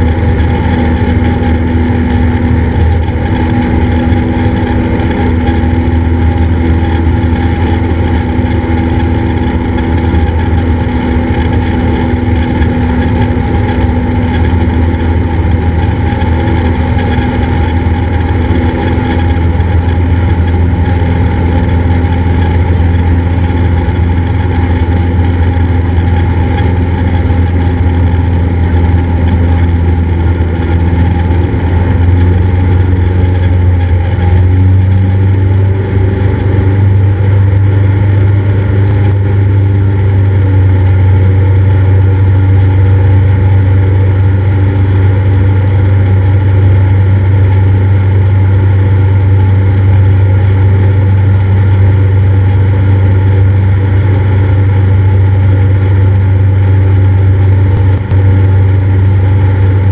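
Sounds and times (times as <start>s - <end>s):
aircraft engine droning in cabin: 0.0s - 59.9s.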